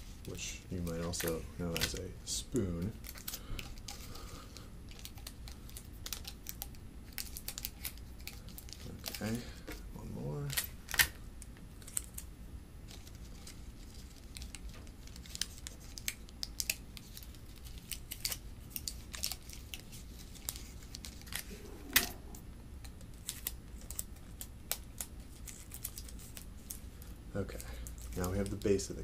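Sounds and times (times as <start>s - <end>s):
plastic straws crackling and clicking: 0.2s - 9.8s, 12.9s - 21.5s, 22.8s - 29.0s.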